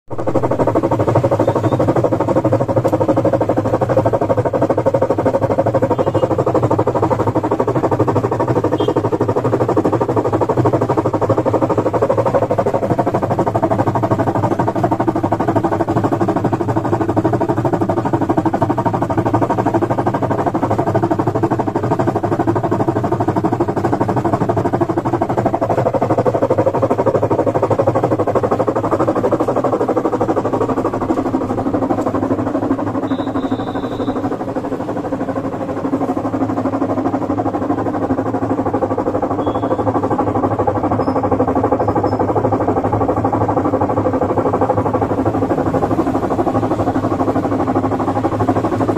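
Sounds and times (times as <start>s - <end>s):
washing machine mechanical drone: 0.0s - 48.9s.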